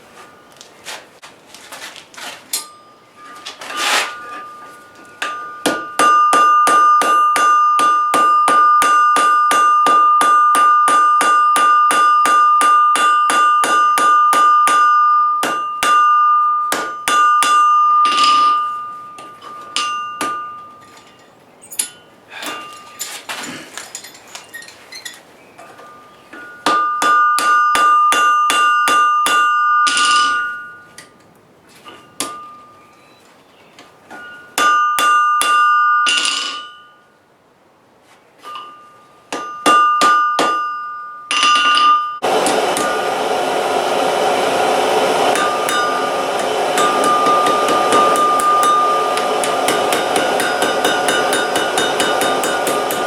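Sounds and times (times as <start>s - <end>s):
hammer ringing on anvil: 2.6s - 23.1s, 25.6s - 31.2s, 31.9s - 33.2s, 34.1s - 37.2s, 38.4s - 43.8s, 44.4s - 53.0s.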